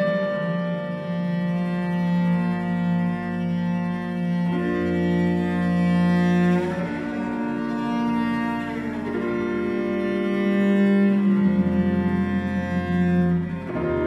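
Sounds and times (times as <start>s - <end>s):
cello playing long held notes: 0.0s - 14.0s.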